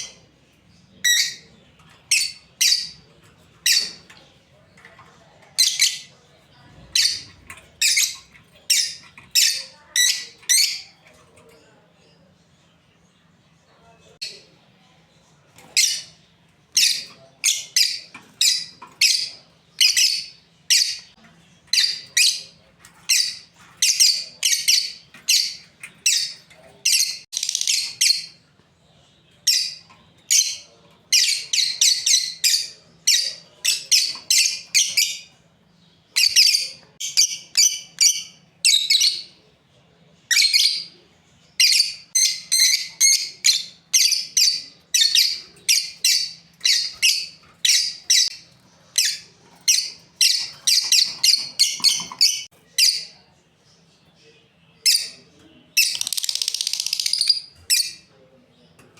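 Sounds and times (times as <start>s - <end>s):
lovebirds chirping: 0.0s - 58.9s.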